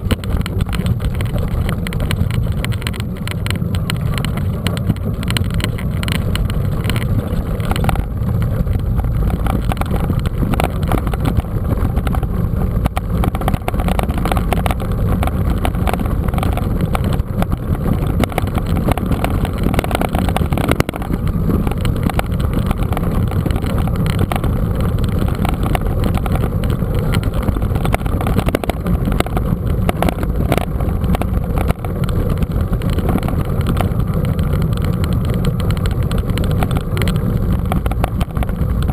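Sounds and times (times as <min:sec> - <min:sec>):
bike rolling noise: 0:00.0 - 0:38.9
small knocks and rattles: 0:00.0 - 0:38.9
wind buffeting microphone: 0:00.0 - 0:38.9.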